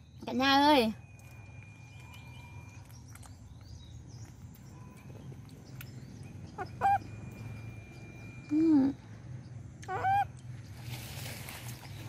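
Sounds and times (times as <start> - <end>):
faint bird chirps: 0.0 - 12.0
low steady rumble: 0.0 - 12.0.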